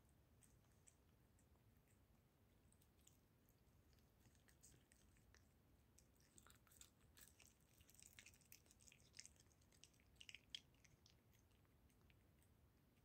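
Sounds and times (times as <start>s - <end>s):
cat chewing: 0.0s - 13.0s.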